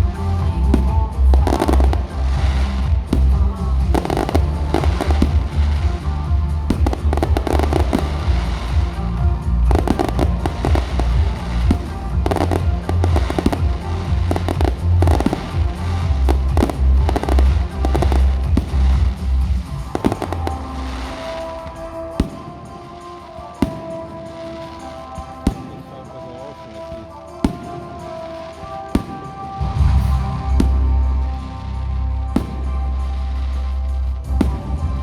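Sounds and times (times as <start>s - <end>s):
fireworks bangs and crackling: 0.0s - 35.0s
music with heavy bass: 0.0s - 35.0s.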